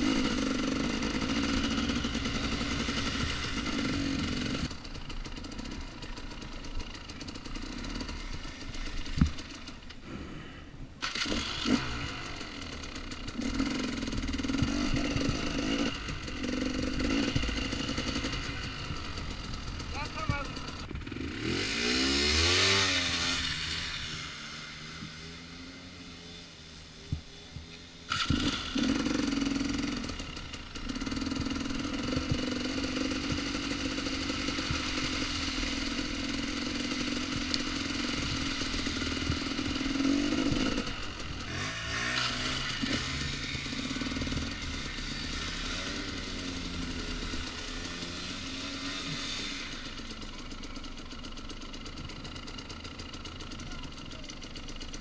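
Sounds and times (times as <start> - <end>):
two-stroke dirt bike engine revving: 0.0 - 55.0.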